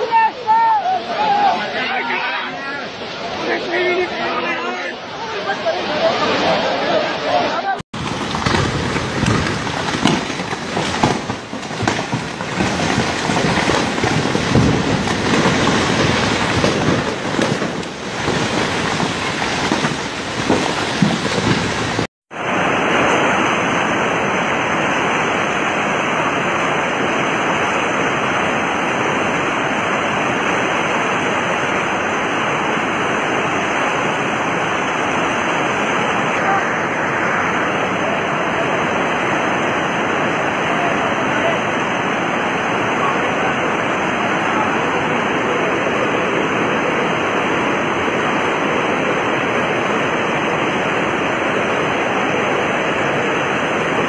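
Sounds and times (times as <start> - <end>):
muddy water rushing through street: 0.0 - 54.0
torrent pouring down mountainside: 0.0 - 54.0.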